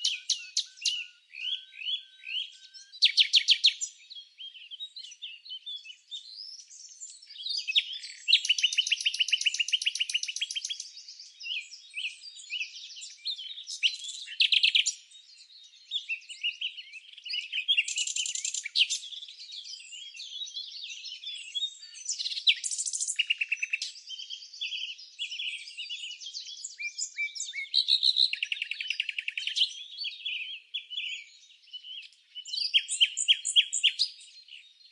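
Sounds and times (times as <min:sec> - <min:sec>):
small birds chirping and singing: 0:00.0 - 0:34.9.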